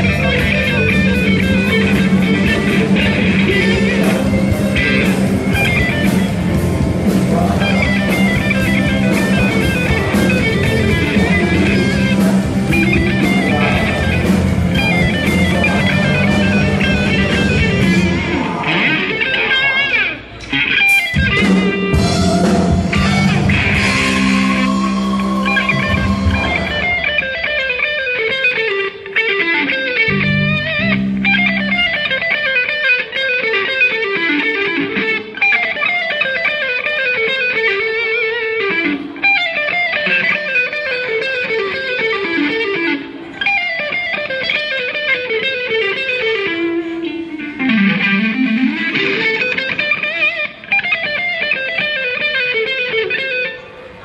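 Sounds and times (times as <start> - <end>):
electric guitar lead runs: 0.0 - 54.0.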